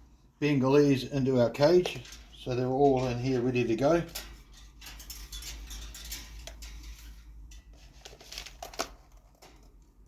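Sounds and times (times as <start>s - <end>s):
rustling of handling: 1.2s - 10.0s.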